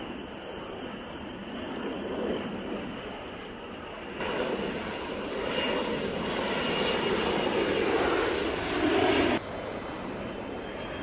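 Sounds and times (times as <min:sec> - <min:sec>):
jet roar with high whine: 0:00.0 - 0:11.0.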